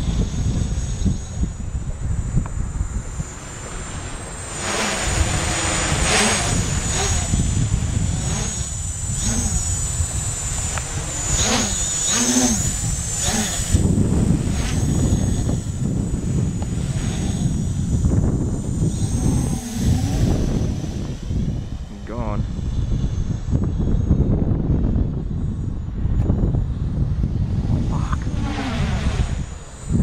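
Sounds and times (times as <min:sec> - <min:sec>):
quadcopter propellers whirring: 0:00.0 - 0:30.0.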